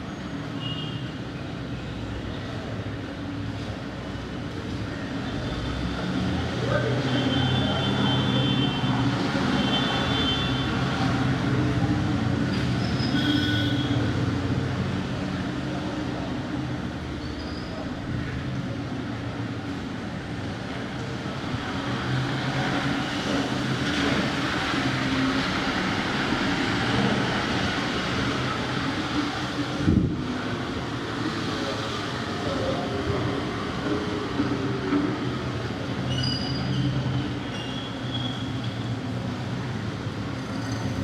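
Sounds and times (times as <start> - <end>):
traffic drone: 0.0 - 41.0.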